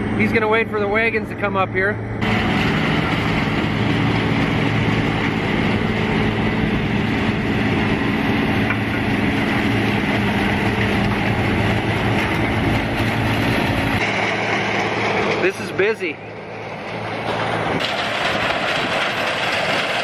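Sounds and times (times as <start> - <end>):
harvester mechanical din: 0.0 - 20.0
low engine hum: 0.0 - 20.0.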